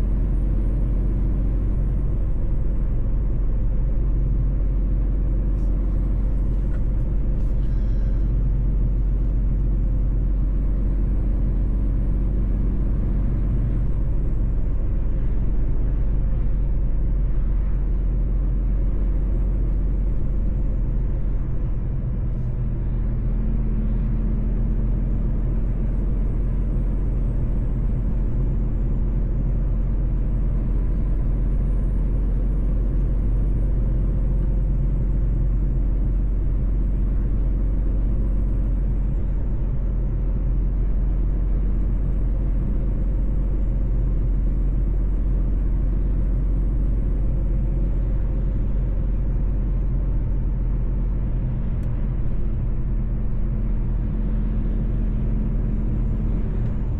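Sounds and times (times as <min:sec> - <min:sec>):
diesel truck engine and road rumble: 0:00.0 - 0:56.9.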